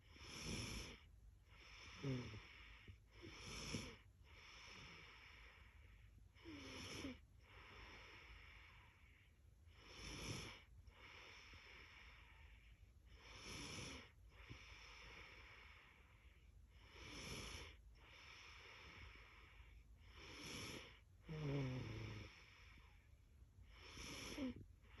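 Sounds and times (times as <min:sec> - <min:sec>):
girl snoring: 0:00.1 - 0:05.7, 0:06.4 - 0:12.5, 0:13.1 - 0:16.1, 0:16.8 - 0:22.9, 0:23.7 - 0:25.0.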